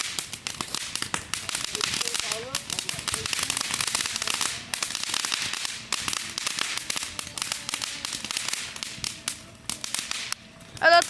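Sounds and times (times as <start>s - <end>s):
firework cracks and pops: 0.0s - 11.0s.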